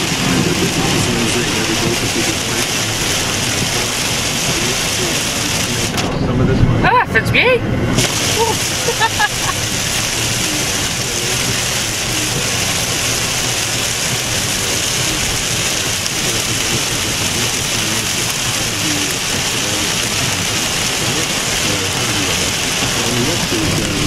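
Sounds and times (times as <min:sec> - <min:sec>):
heavy rain on car roof: 0:00.0 - 0:07.0, 0:08.0 - 0:24.0.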